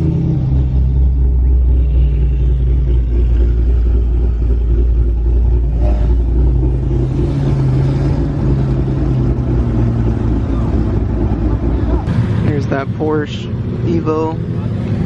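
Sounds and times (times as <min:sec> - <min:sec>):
car engine rumbling inside cabin: 0:00.0 - 0:15.0.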